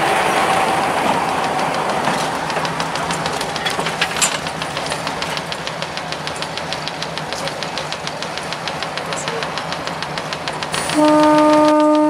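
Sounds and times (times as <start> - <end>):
railcar mechanical rumble: 0.0 - 12.0
rhythmic wheel clatter: 0.0 - 12.0.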